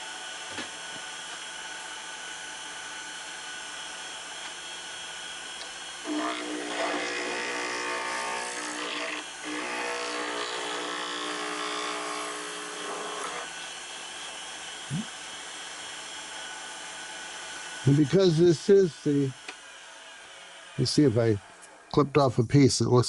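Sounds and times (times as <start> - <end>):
wood lathe motor running: 0.2 - 20.9
turning tool cutting wood: 0.3 - 21.4.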